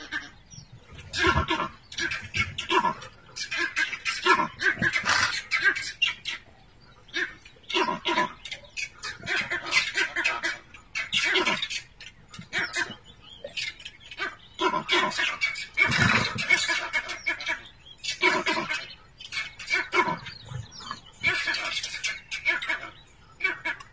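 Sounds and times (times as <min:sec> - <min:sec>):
harsh animal calls: 0:00.0 - 0:06.5, 0:07.1 - 0:23.9.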